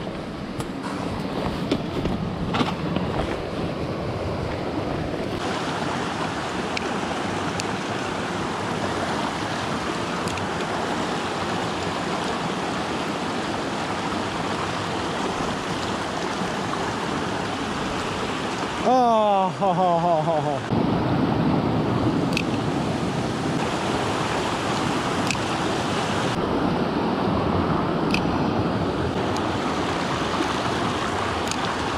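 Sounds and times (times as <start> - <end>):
creek running over rocks: 0.9 - 20.7, 22.4 - 26.4, 29.0 - 31.9.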